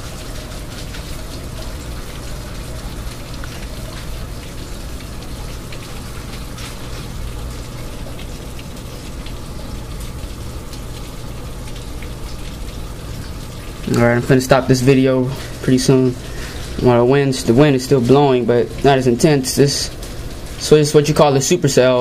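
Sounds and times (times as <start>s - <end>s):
light rain falling: 0.0s - 22.0s
raindrops ticking close by: 0.0s - 22.0s
steady low hum: 0.0s - 22.0s.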